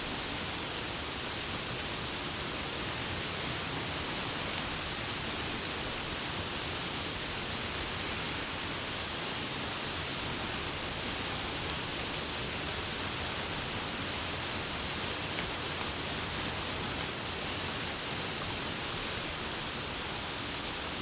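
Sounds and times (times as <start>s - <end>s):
heavy rain falling: 0.1s - 21.0s.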